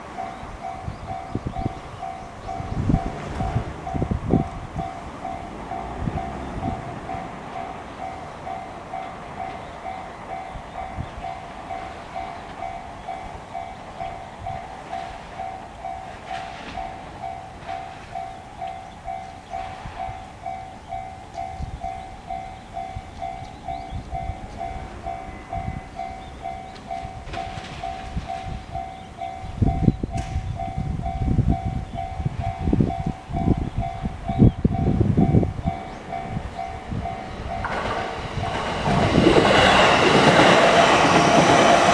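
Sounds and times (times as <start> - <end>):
level crossing warning bell: 0.0 - 41.9.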